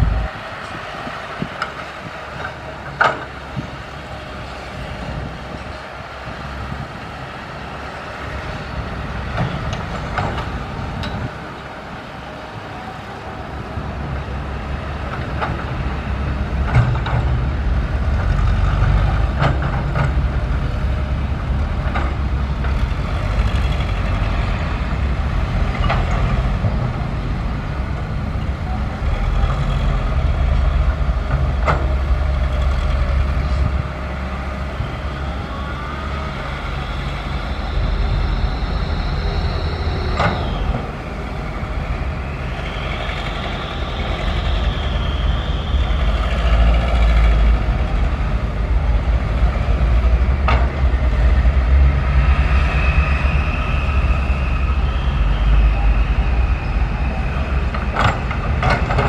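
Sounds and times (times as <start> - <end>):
excavator diesel engine under load: 0.0 - 59.0
hydraulic whine: 0.0 - 59.0.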